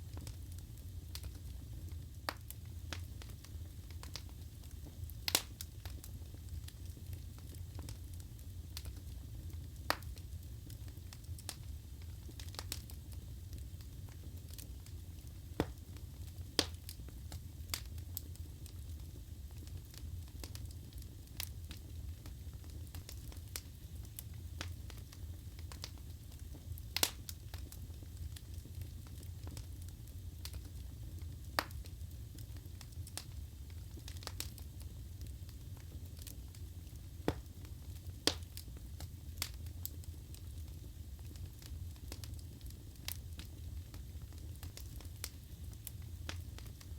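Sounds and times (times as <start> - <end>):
burning logs crackling and popping: 0.0 - 46.9
low rumble of flames: 0.0 - 46.9.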